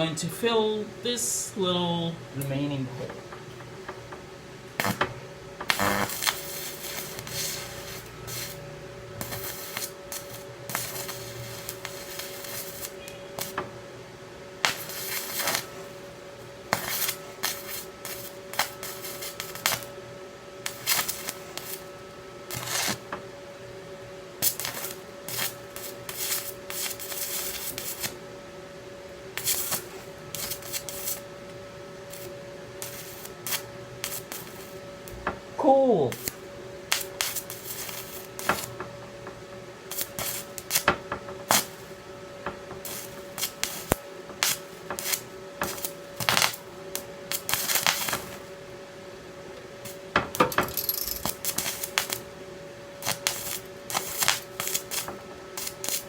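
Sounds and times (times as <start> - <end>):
steady hum: 0.0 - 56.0
welding arc crackling and sizzling: 1.0 - 13.8, 14.6 - 28.3, 29.1 - 48.8, 49.7 - 56.0.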